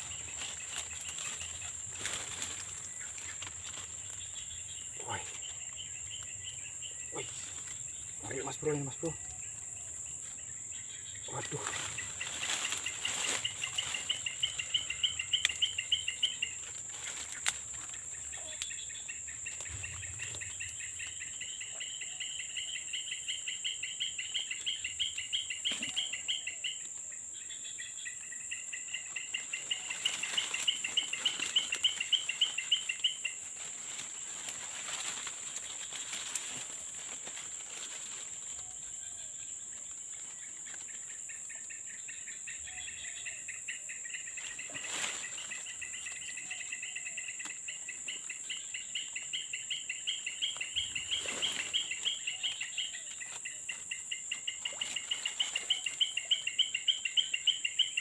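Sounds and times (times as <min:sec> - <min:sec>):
rapid pulsing insect trill: 0:00.0 - 0:58.0.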